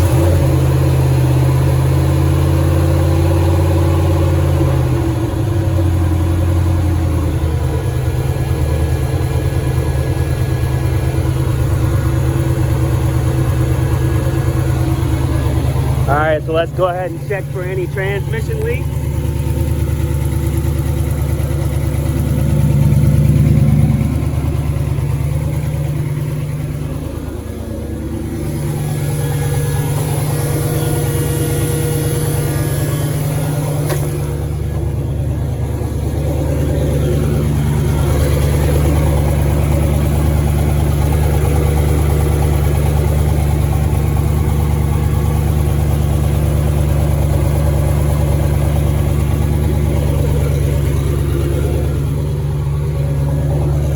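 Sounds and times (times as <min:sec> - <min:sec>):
car engine fast idling: 0:00.0 - 0:53.9.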